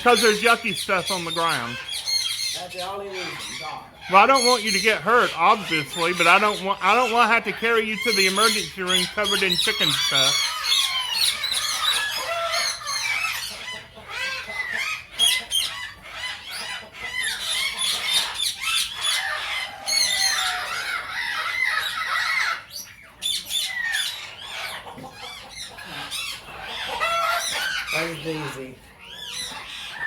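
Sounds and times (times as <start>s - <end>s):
parrots squawking and chattering: 0.0s - 30.0s.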